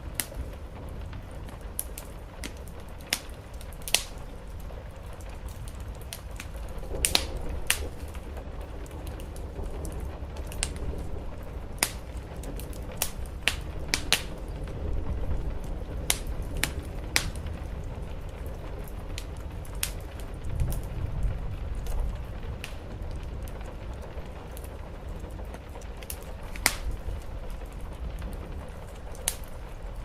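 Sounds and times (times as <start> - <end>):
rain on a roof: 0.0 - 30.0
wood fire crackling: 0.0 - 30.0.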